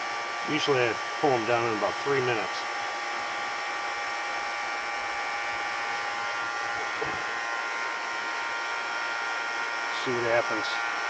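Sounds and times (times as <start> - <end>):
vacuum pump running: 0.0 - 11.0.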